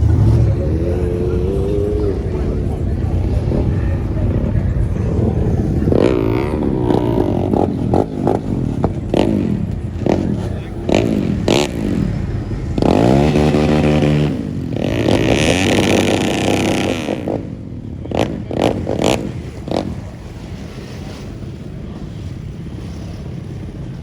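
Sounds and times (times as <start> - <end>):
car engine revving: 0.0 - 24.0
sharp exhaust cracks: 0.0 - 24.0.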